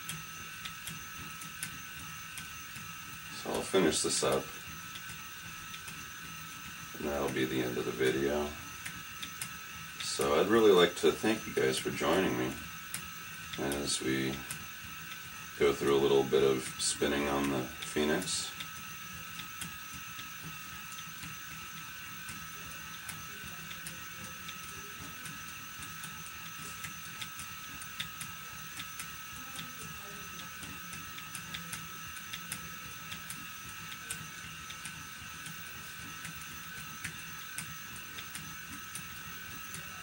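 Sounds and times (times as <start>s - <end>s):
light irregular ticks: 0.0s - 40.0s
spinning wheel motor whine: 0.0s - 40.0s.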